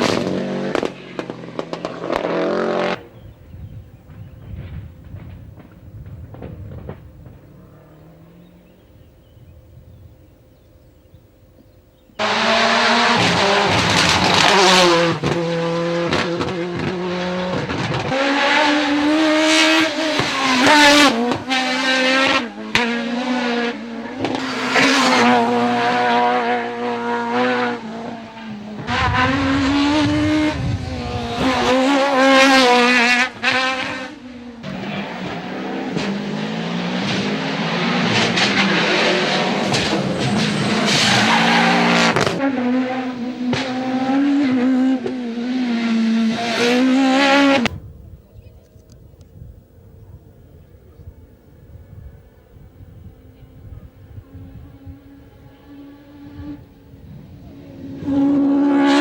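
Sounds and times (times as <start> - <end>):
rally car engine revving: 0.0 - 3.3, 4.0 - 9.4, 12.1 - 47.8, 53.9 - 59.0.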